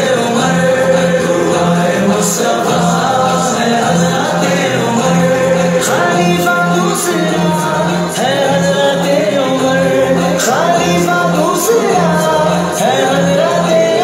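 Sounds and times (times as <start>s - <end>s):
voices singing: 0.0s - 14.0s.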